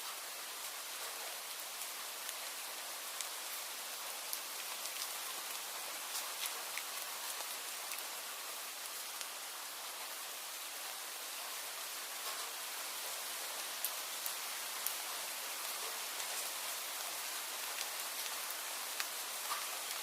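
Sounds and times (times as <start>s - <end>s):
raindrops ticking on a surface: 0.0s - 20.0s
steady rain hiss: 0.0s - 20.0s.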